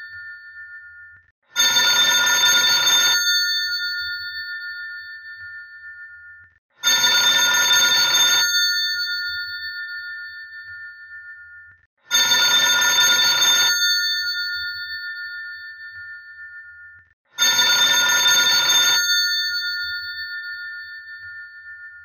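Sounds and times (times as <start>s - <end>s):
bell telephone ringing: 0.0s - 22.0s.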